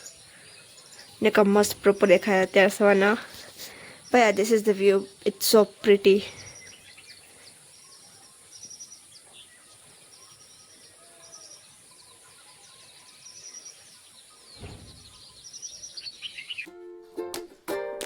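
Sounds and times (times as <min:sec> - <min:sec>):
birds chirping: 0:00.0 - 0:16.7
background hiss: 0:00.0 - 0:18.0.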